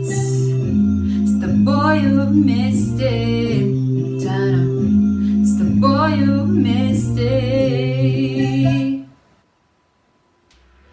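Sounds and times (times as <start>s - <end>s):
electronic piano: 0.0s - 9.0s
woman singing: 0.0s - 9.2s.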